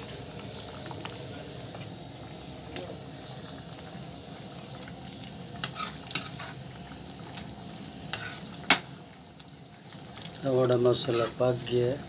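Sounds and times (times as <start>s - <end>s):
spice paste sizzling: 0.0s - 12.0s.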